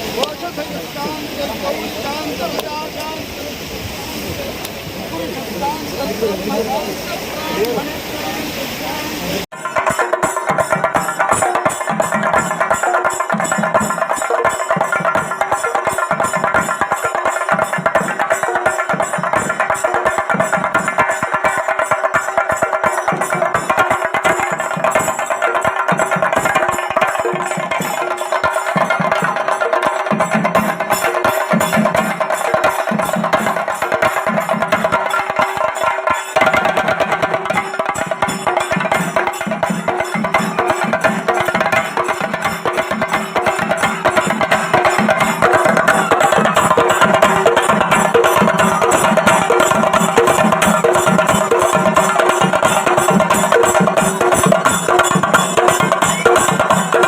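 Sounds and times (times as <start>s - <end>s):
fast percussion: 0.0s - 57.0s.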